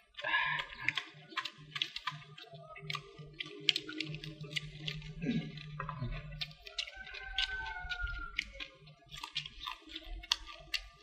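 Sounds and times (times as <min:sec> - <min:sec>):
people chewing crunchy bones: 0:00.0 - 0:11.0.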